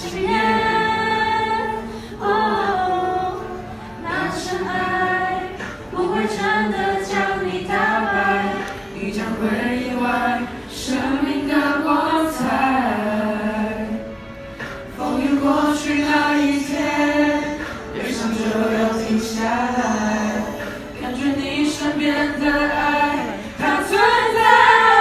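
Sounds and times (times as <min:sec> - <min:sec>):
choir singing a cappella: 0:00.0 - 0:25.0.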